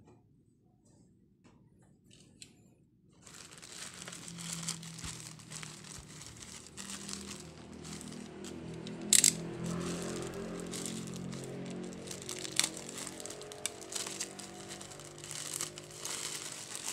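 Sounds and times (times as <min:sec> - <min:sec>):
plastic bag crinkling: 0:03.2 - 0:16.9.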